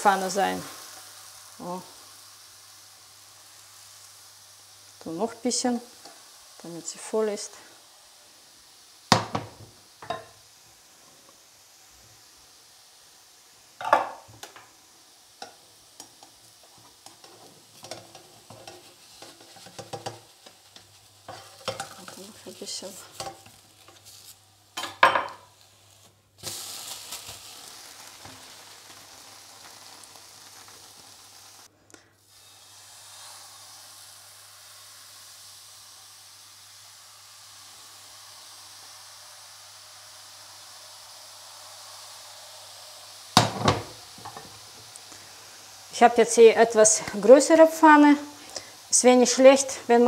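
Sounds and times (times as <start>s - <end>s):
batter sizzling in hot pan: 0.0s - 50.0s.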